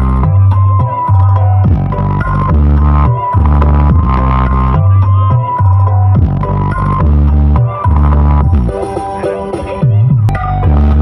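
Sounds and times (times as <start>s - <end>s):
deep bass: 0.0s - 8.8s, 9.8s - 11.0s.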